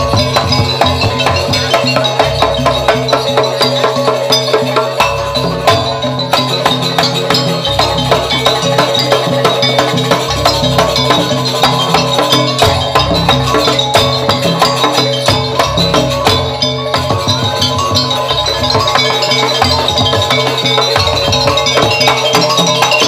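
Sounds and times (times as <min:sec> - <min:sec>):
fast percussion strokes: 0:00.0 - 0:23.0.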